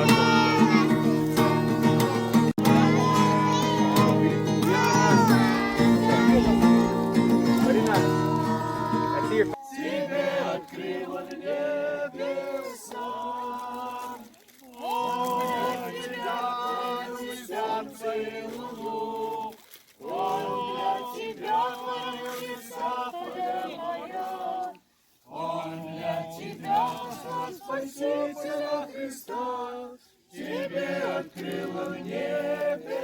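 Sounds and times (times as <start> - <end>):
group singing without instruments: 0.0 - 33.0.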